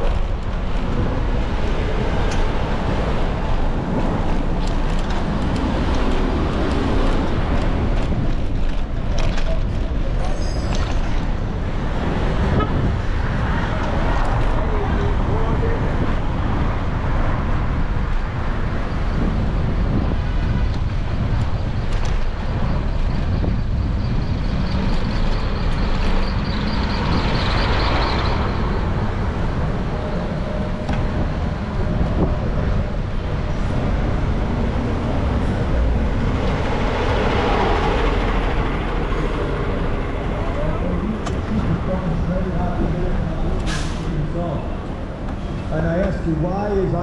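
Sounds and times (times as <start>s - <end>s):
wind and riding noise rumble: 0.0s - 47.0s.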